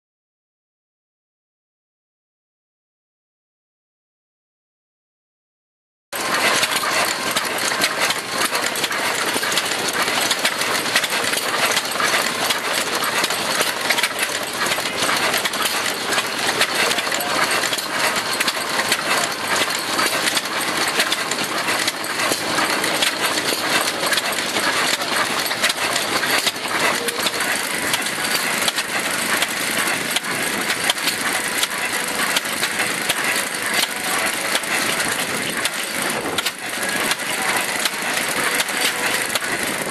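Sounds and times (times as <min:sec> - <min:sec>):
stationary engine clattering: 0:06.2 - 0:39.9.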